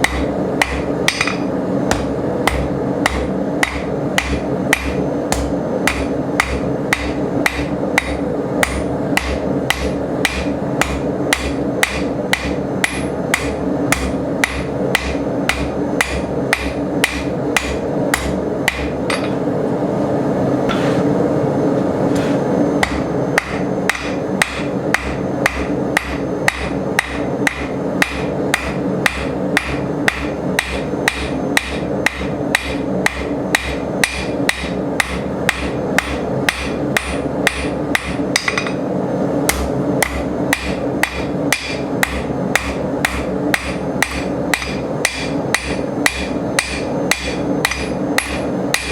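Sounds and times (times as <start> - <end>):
hammer striking steel on anvil: 0.0 - 19.5, 22.8 - 38.9, 39.5 - 48.9
steady background noise: 0.0 - 48.9.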